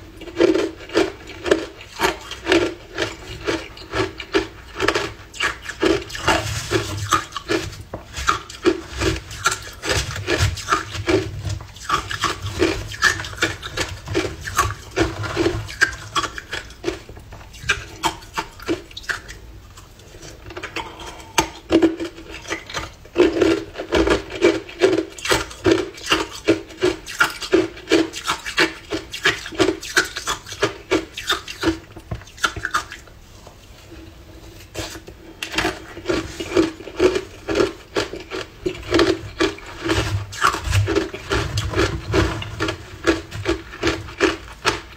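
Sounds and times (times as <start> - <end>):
ice crunching between teeth: 0.2 - 19.4, 20.0 - 33.0, 34.8 - 44.9.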